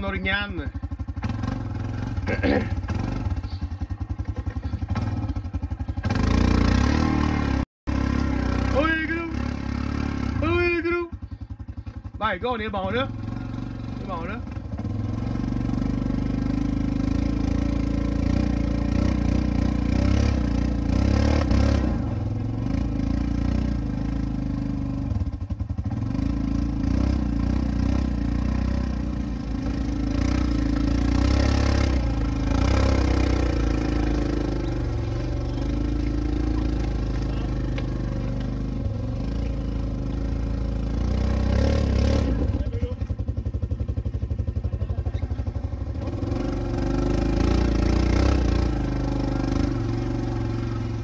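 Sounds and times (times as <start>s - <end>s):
atv engine running under load: 0.0s - 51.0s.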